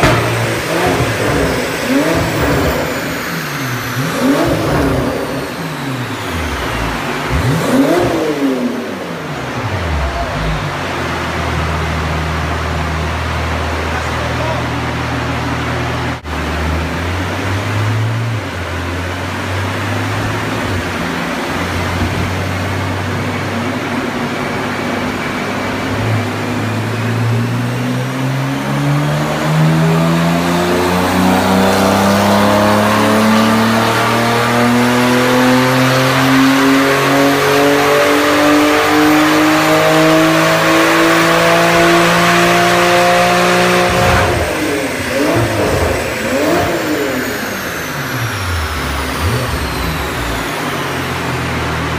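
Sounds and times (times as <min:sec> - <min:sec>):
car engine revving on a dyno: 0:00.0 - 0:51.9.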